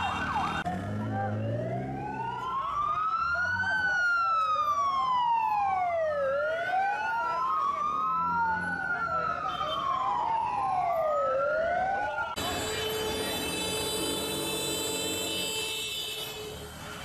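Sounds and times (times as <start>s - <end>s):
ambulance sirens wailing: 0.0s - 16.1s.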